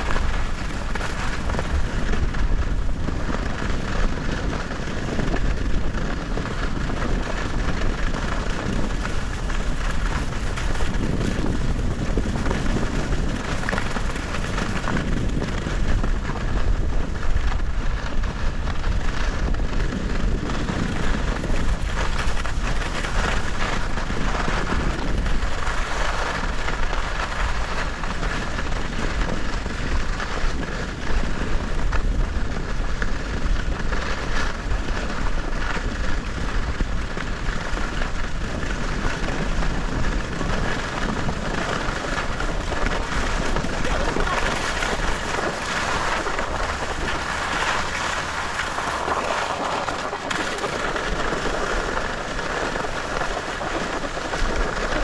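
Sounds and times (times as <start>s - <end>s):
skis sliding over snow: 0.0s - 55.0s
wind buffeting microphone: 0.0s - 55.0s.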